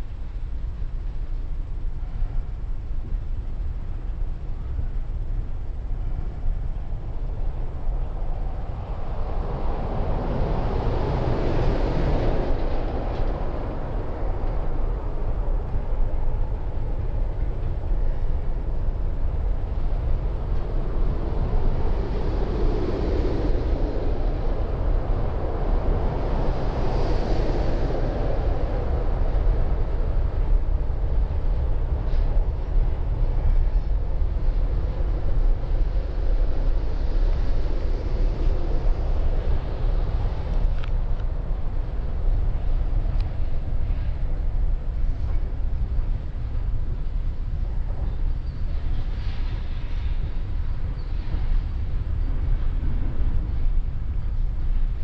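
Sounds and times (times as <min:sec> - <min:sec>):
freight train cars rumbling: 0:00.0 - 0:55.0.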